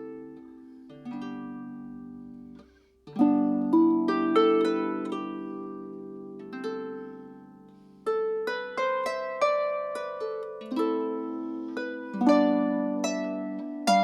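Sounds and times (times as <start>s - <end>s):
harp plucked notes: 0.0s - 14.0s.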